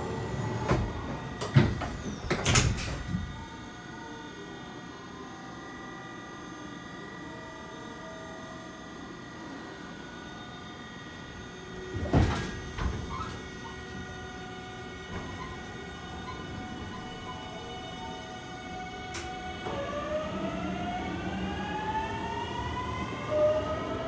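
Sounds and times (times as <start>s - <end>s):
electric train humming: 0.0s - 24.0s.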